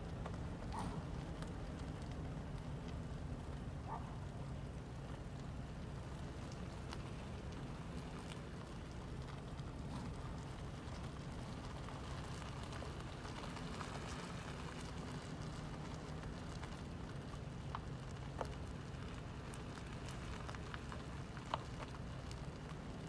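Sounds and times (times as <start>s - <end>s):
crackling tyre noise: 0.0s - 23.0s
engine and road rumble: 0.0s - 23.0s.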